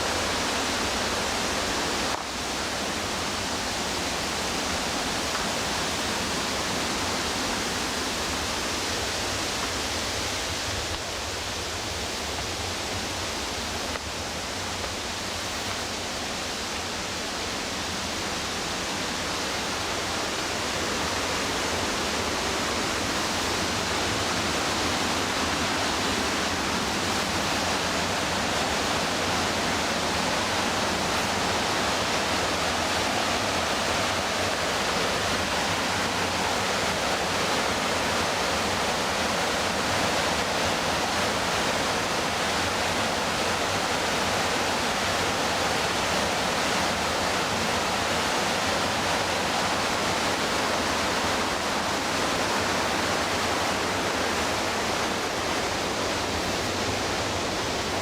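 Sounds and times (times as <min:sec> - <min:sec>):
river whitewater rushing: 0:00.0 - 0:58.0.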